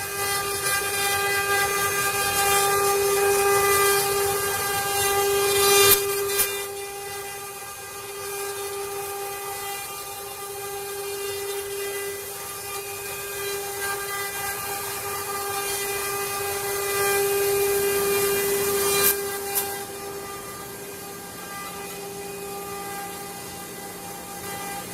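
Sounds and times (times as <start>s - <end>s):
router spindle whining: 0.0s - 24.9s.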